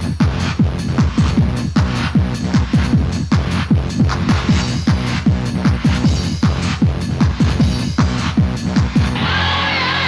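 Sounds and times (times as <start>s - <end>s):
heavy kick drum pounding: 0.0s - 9.2s
fast hardcore techno: 0.0s - 10.0s.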